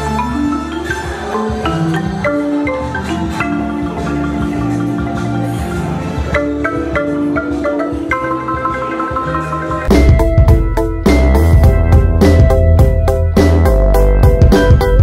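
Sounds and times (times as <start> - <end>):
marimba melody: 0.0 - 15.0.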